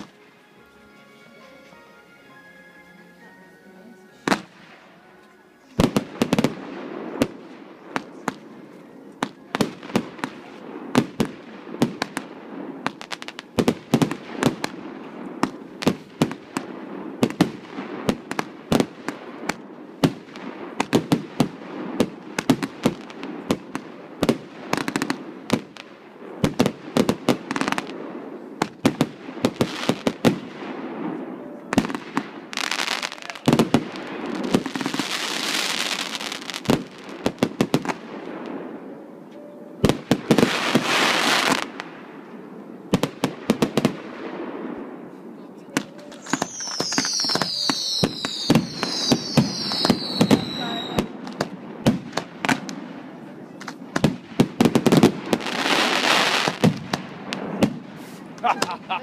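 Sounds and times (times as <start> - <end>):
fireworks bangs: 0.0 - 0.3, 4.2 - 5.0, 5.6 - 59.0.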